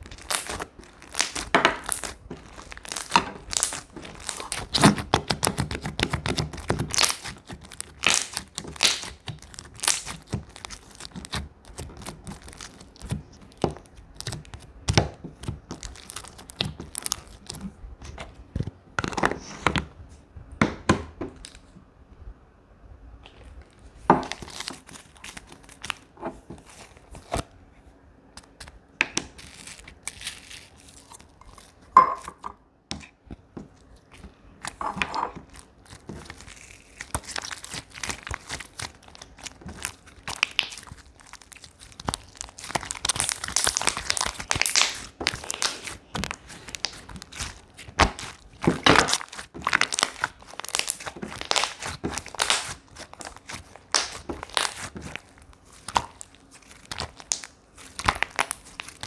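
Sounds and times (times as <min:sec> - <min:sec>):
slime squishing and crackling: 0:00.0 - 0:20.0, 0:23.3 - 0:27.6, 0:28.4 - 0:32.4, 0:33.0 - 0:59.0.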